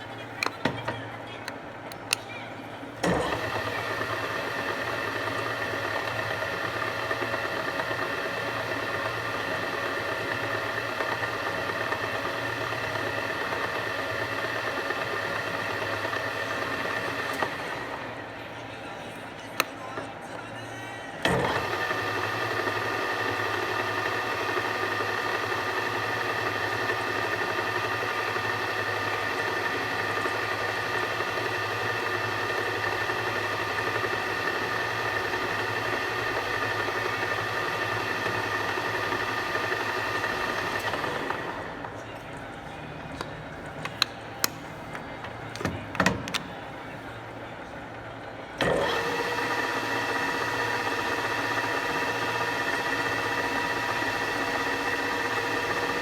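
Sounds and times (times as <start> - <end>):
milling machine whining: 0.0 - 56.0.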